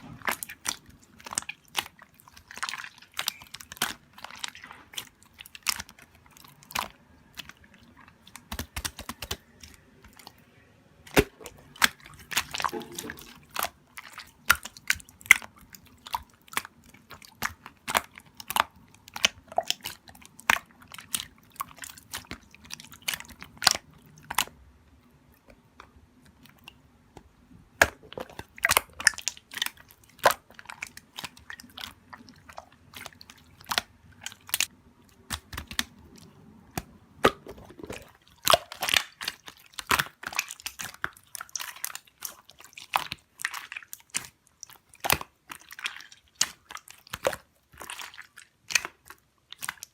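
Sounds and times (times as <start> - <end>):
slime clicking and crackling: 0.0 - 10.4, 11.0 - 24.7, 25.4 - 49.9.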